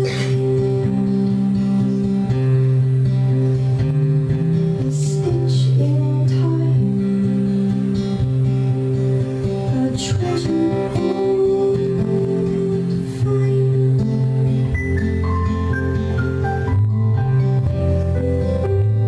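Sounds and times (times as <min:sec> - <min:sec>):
acoustic guitar strumming: 0:00.0 - 0:19.0
bass guitar notes: 0:00.0 - 0:19.0.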